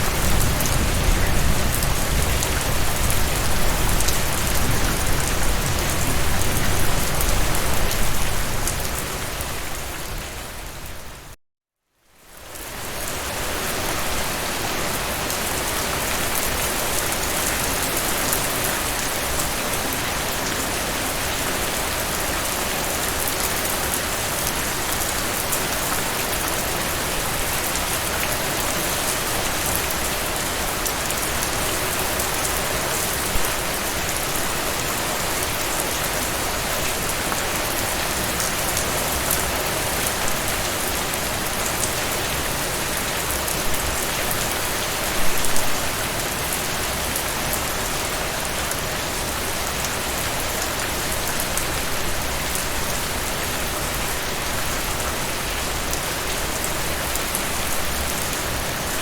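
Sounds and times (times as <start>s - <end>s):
heavy rain falling: 0.0s - 11.4s, 12.5s - 59.0s.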